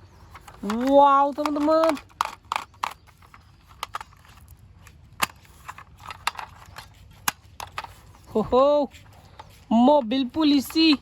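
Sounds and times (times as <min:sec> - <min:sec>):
toy vehicles clicking and tapping: 0:00.2 - 0:11.0.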